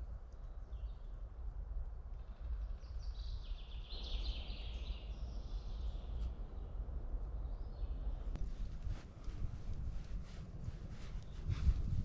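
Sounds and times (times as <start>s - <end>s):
low rumble of outdoor noise: 0.0s - 12.0s.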